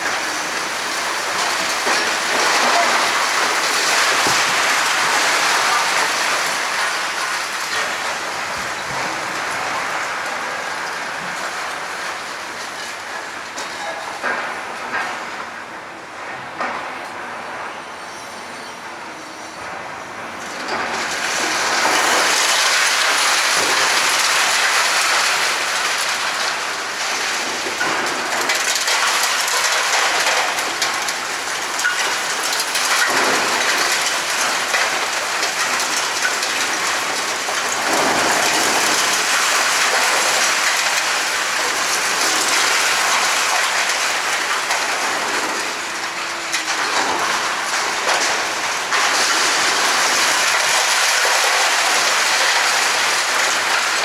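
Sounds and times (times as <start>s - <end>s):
debris falling: 0.0s - 15.2s, 20.4s - 54.0s.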